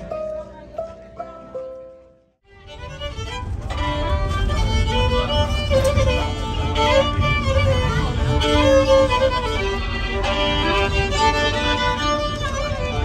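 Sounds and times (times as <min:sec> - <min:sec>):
fiddle playing a melody: 0:00.0 - 0:13.0
steady low rumble: 0:02.0 - 0:13.0.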